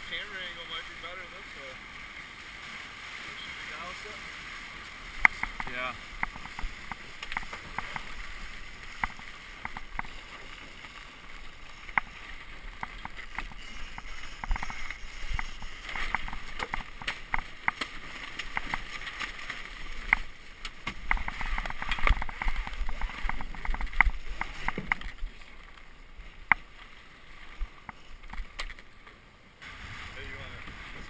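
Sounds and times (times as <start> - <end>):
water rushing along a hull: 0.0 - 31.0.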